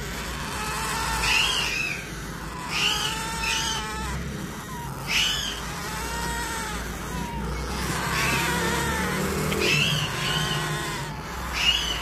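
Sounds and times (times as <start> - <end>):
parrot chicks begging calls: 0.0 - 12.0.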